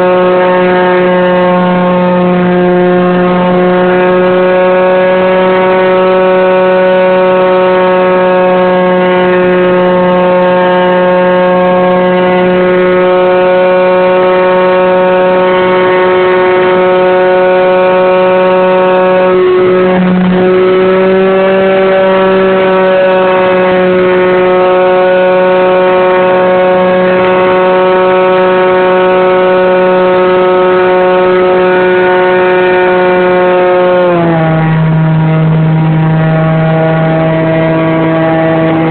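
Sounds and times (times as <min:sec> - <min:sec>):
model plane motor whine: 0:00.0 - 0:38.9.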